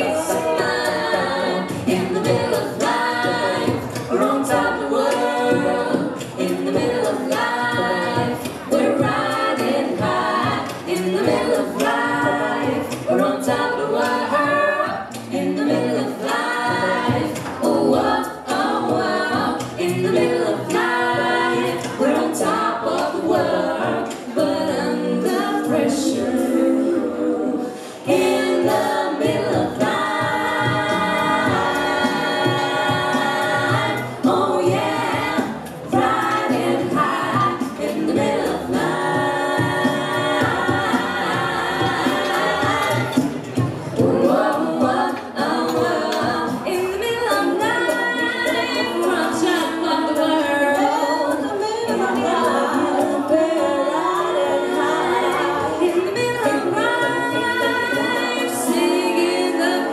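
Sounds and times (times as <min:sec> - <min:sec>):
a cappella group singing in harmony: 0:00.0 - 0:59.9.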